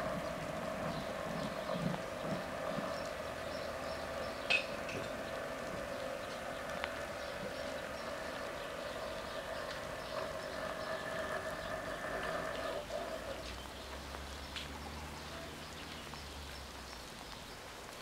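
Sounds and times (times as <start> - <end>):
faint rain patter: 0.0 - 18.0.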